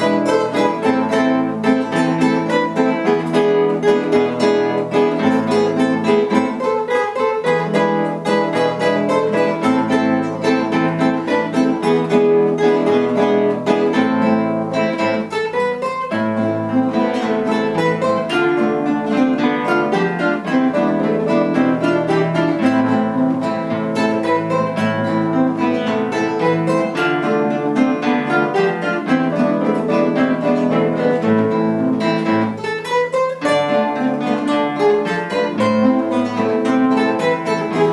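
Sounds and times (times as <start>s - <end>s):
acoustic guitars plucking: 0.0s - 37.9s.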